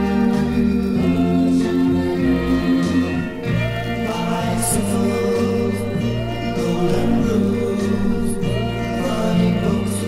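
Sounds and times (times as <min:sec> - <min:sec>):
pop song singing with backing: 0:00.0 - 0:10.0.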